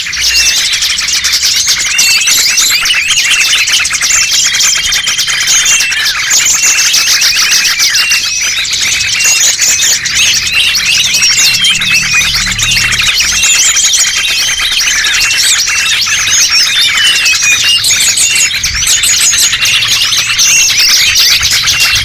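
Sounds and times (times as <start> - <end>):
songbirds chirping and twittering: 0.0 - 22.0.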